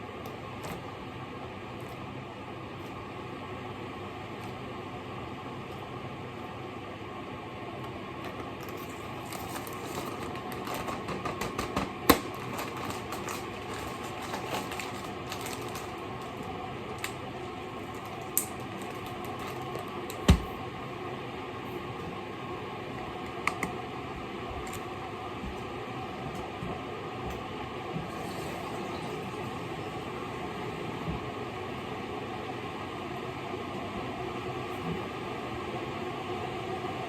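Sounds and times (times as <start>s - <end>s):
background hum: 0.0s - 36.3s.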